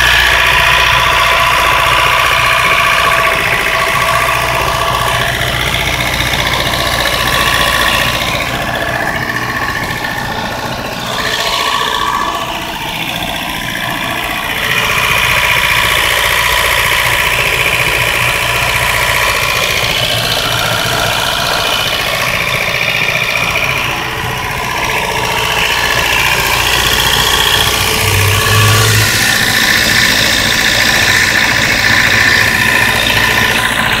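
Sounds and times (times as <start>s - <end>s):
car engine misfiring: 0.0s - 34.0s.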